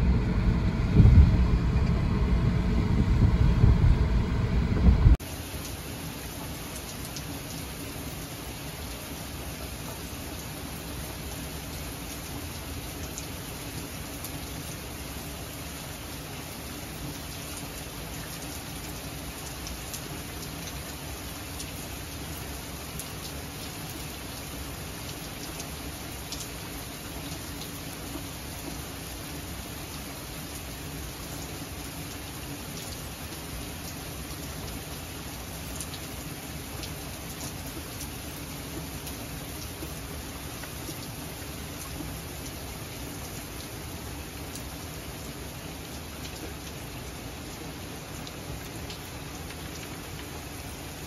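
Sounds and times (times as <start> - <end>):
heavy rain falling: 0.0 - 51.0
raindrops ticking close by: 0.0 - 51.0.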